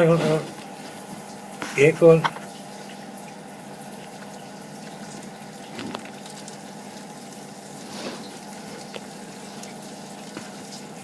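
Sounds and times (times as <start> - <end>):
water running through plumbing: 0.0 - 11.0.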